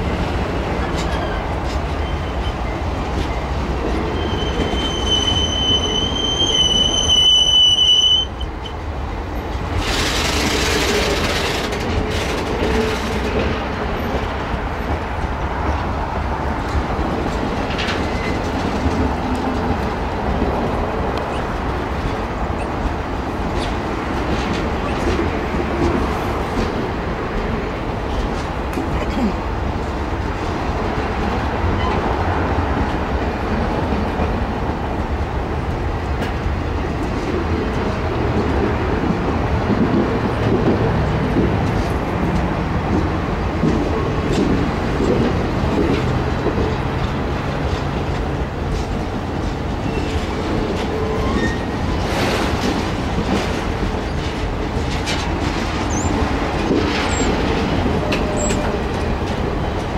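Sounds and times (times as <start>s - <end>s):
clickety-clack over rail joints: 0.0s - 7.5s, 8.4s - 59.9s
train wheels rumbling on rail: 0.0s - 59.9s.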